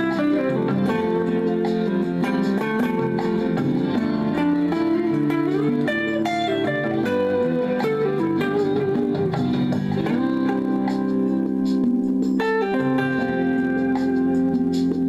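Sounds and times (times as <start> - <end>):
backing track: 0.0 - 15.0
guitar melody: 0.0 - 15.0.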